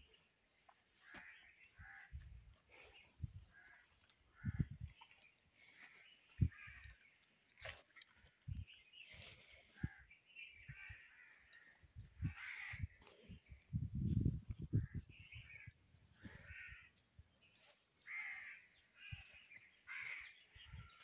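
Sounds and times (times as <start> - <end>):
birds calling: 0.0 - 13.8, 14.6 - 21.0.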